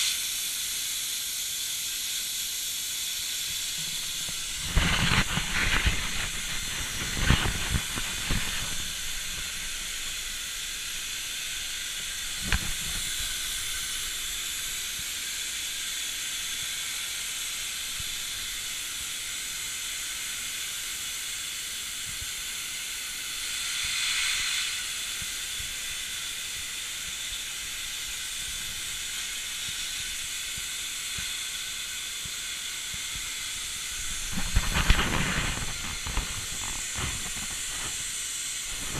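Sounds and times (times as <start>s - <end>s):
plasma arc hissing: 0.0s - 38.9s.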